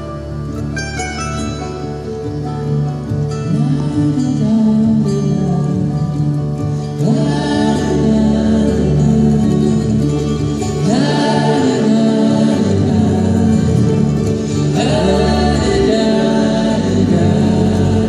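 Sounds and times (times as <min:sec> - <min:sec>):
acoustic string band playing: 0:00.0 - 0:18.0
voices singing in harmony: 0:03.4 - 0:18.0.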